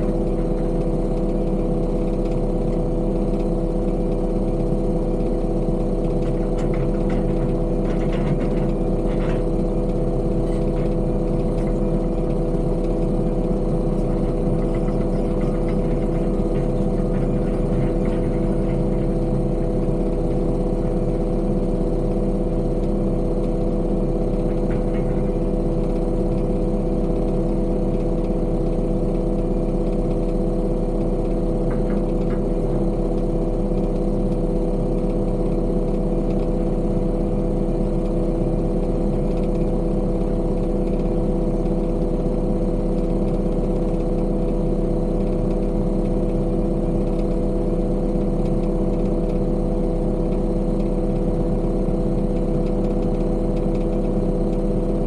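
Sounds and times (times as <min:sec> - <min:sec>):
construction machine engine running: 0:00.0 - 0:55.0.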